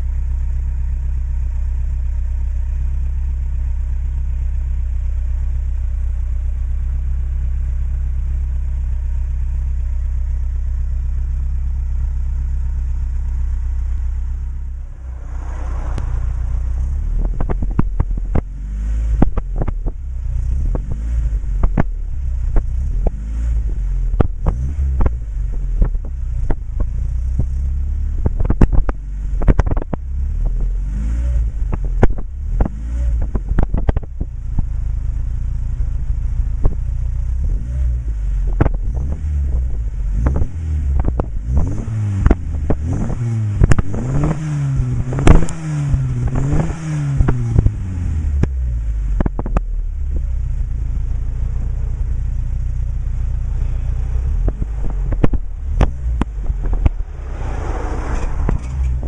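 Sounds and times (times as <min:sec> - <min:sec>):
car engine idling: 0:00.0 - 0:59.0
exhaust cracks: 0:10.8 - 0:59.0.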